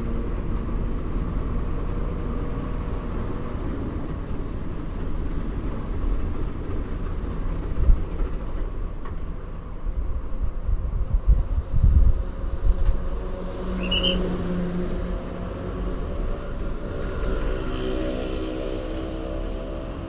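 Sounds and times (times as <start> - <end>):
bus engine hum: 0.0 - 20.0
road rumble: 0.0 - 20.0.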